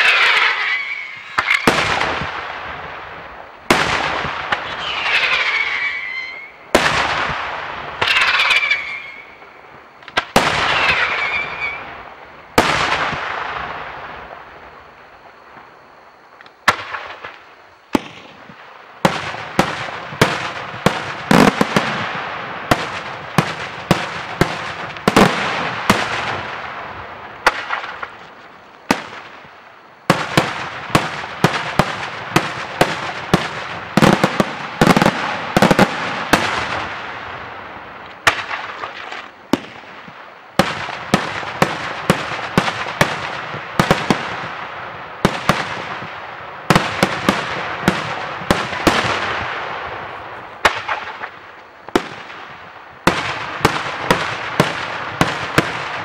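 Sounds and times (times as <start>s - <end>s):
fireworks bangs with echo: 0.0s - 14.8s, 16.6s - 56.0s.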